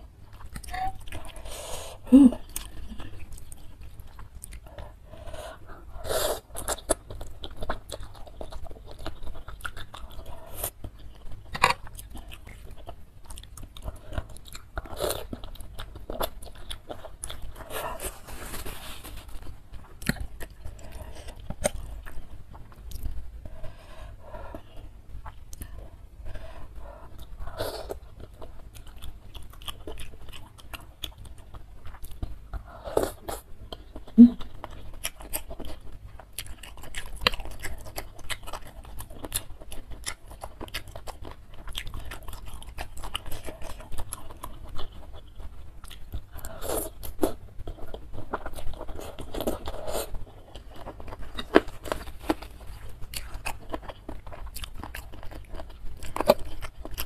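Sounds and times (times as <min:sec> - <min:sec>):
chewing and biting: 0:06.4 - 0:57.0.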